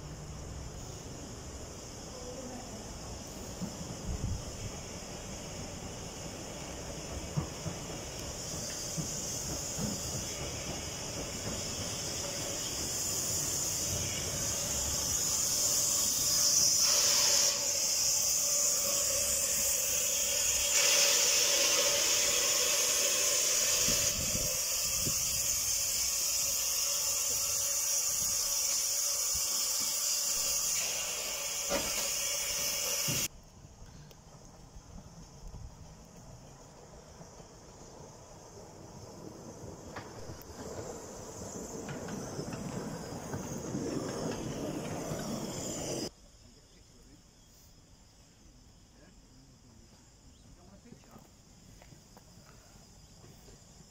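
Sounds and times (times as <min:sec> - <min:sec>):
steam locomotive hissing: 0:00.0 - 0:33.4, 0:34.2 - 0:46.2.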